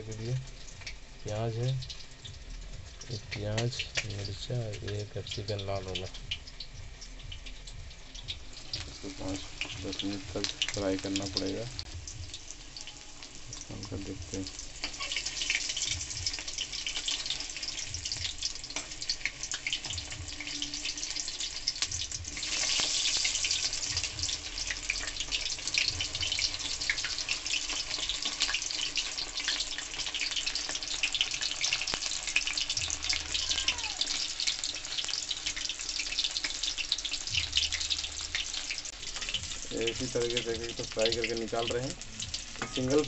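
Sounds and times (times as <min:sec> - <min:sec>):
chicken deep-frying in hot oil: 0:00.0 - 0:43.0.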